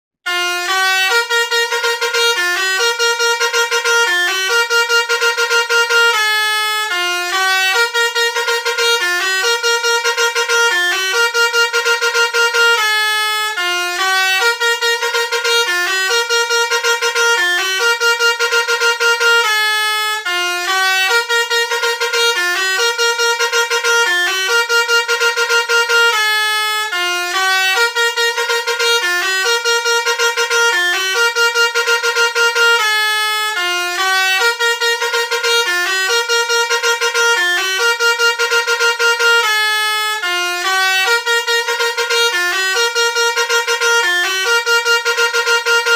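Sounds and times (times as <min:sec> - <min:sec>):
musical bus horn melody: 0:00.2 - 0:45.9.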